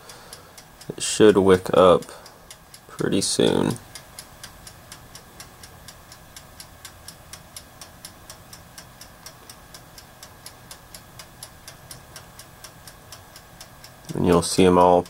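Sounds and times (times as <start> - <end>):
mechanical timer ticking: 0.0 - 15.0.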